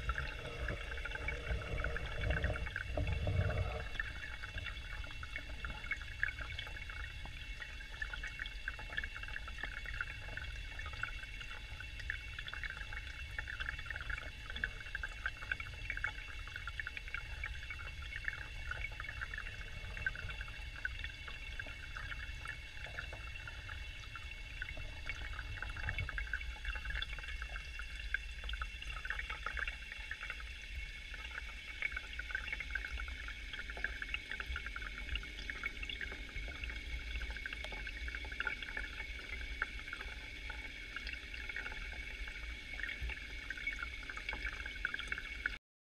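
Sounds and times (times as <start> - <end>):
running water trickling and splashing: 0.0 - 45.6.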